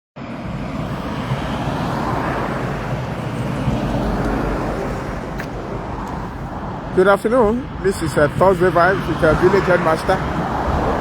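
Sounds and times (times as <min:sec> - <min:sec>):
road traffic rushing: 0:00.2 - 0:11.0.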